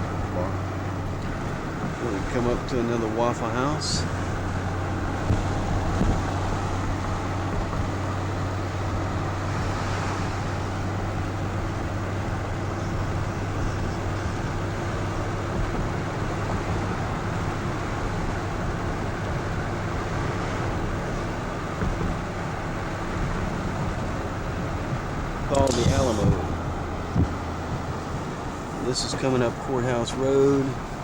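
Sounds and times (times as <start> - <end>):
car engine and tyre noise inside cabin: 0.0 - 31.0.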